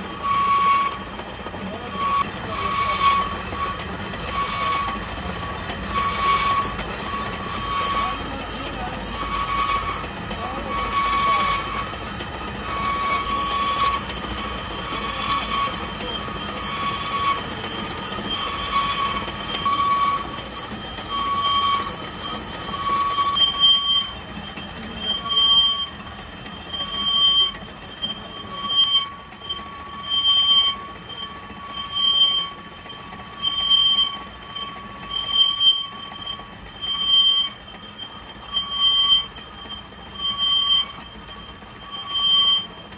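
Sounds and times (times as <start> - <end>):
pulsing metal squeal: 0.0 - 42.9.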